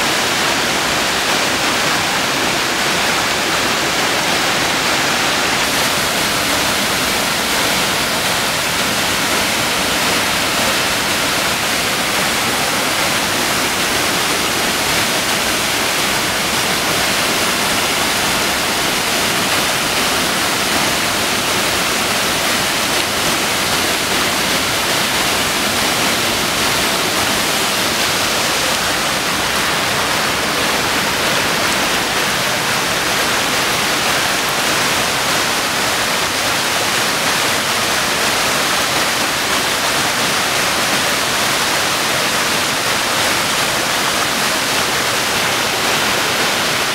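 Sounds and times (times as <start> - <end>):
water rushing over rocks: 0.0 - 46.9.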